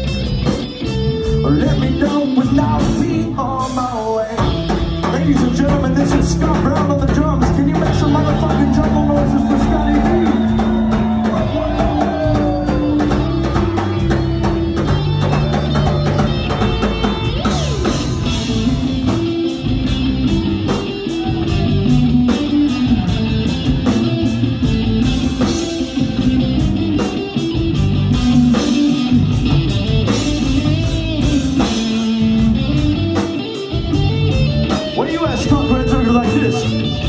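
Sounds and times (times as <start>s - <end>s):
bass guitar: 0.0s - 37.0s
drum kit beat: 0.0s - 37.0s
electric guitar: 0.0s - 37.0s.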